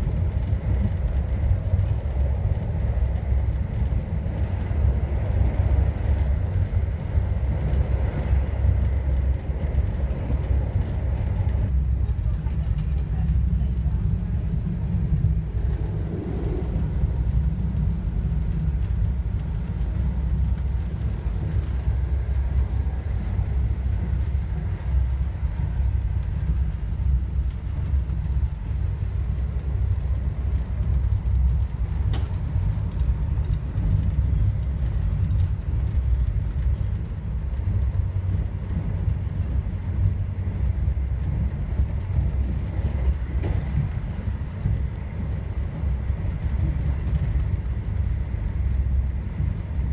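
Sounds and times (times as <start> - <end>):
train rumbling at speed: 0.0 - 49.9.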